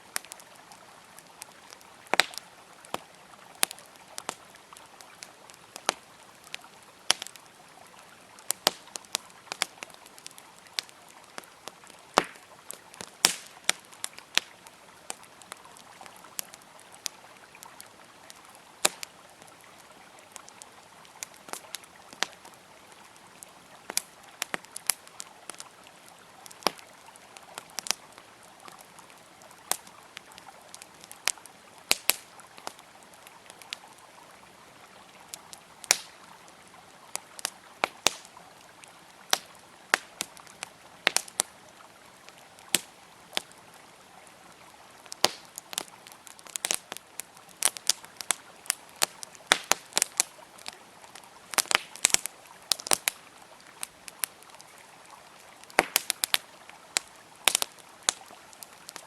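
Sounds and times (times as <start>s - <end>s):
campfire crackling and popping: 0.0s - 59.0s
river flowing: 0.0s - 59.0s.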